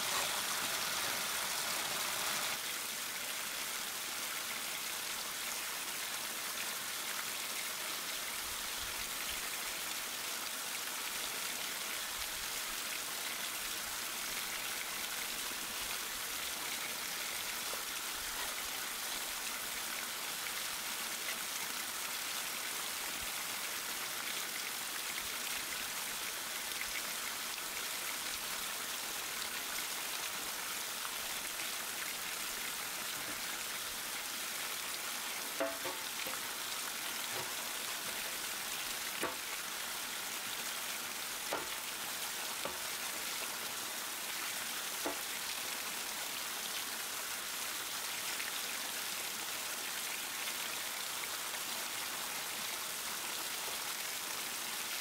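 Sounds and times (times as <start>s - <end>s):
steady water-like hiss: 0.0s - 55.0s.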